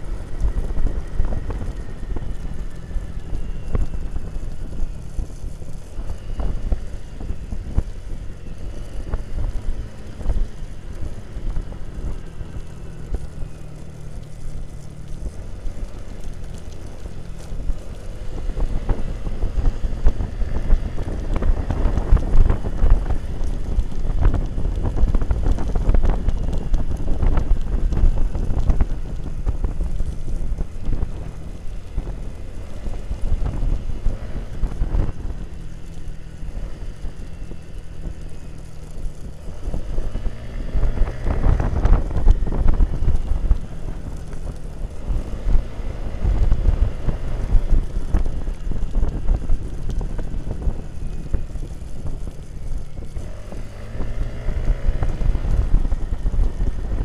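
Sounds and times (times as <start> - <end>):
motorcycle engine running: 0.0 - 57.0
wind rumbling on microphone: 0.0 - 57.0.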